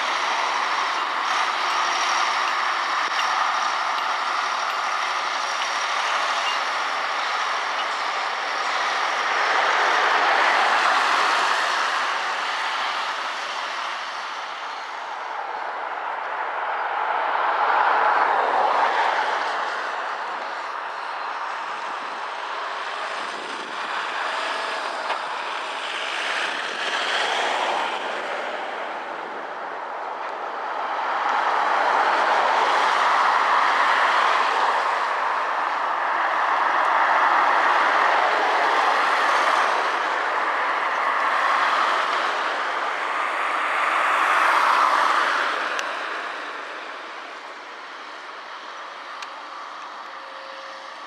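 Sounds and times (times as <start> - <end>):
cars passing close by: 0.0 - 51.0.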